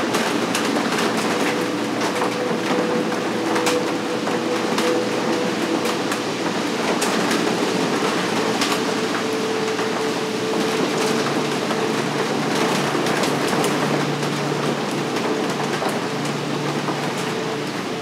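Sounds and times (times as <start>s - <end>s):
low held tones: 1.0s - 18.0s.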